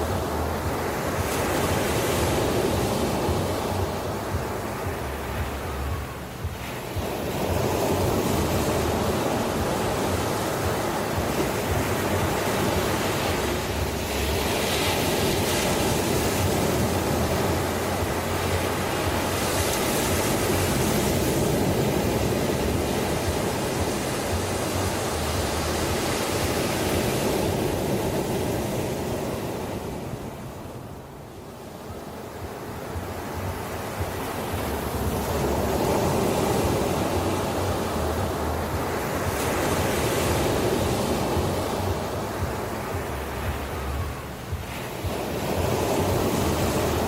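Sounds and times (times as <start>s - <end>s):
ocean surf rushing: 0.0s - 47.0s.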